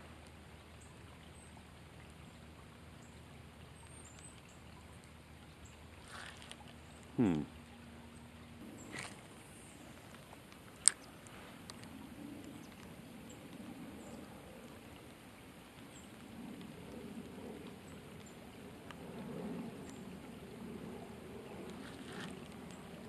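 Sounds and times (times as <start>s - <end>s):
rain falling on a lake: 0.0s - 23.0s.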